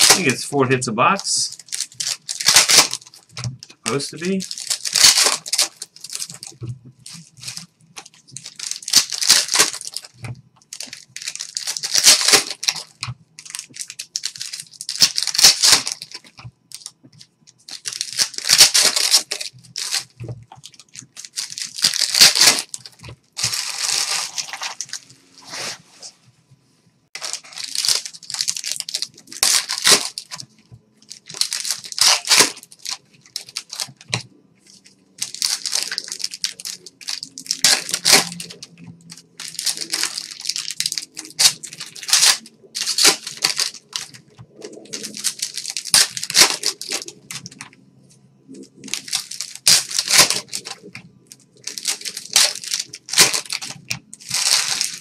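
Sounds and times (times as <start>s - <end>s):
wrapper tearing open: 0.0s - 0.5s, 1.2s - 17.0s, 17.7s - 25.6s, 27.2s - 47.7s, 48.6s - 55.0s.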